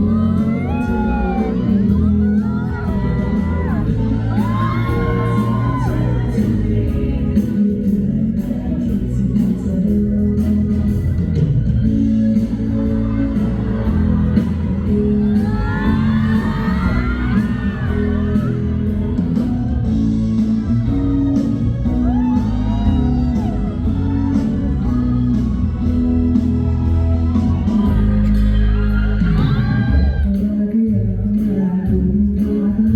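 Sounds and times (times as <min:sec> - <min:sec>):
audience screaming and cheering: 0:00.0 - 0:08.0, 0:11.1 - 0:30.8
live music with steady beat: 0:00.0 - 0:32.9.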